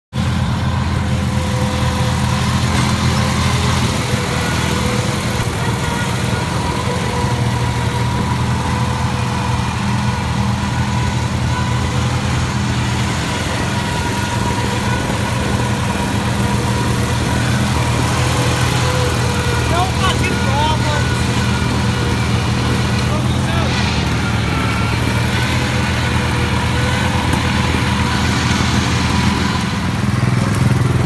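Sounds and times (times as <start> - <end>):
riding lawn mower engine running: 0.1 - 31.0.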